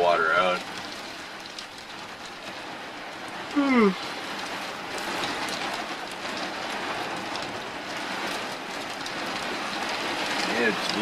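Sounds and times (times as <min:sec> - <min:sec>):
raindrops ticking on a surface: 0:00.0 - 0:11.0
steady rain hiss: 0:00.0 - 0:11.0.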